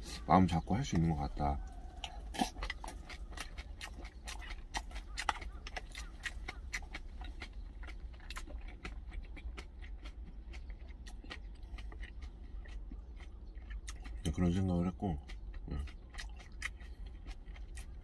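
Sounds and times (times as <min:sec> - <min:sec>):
wet chewing clicks: 0:00.0 - 0:18.0.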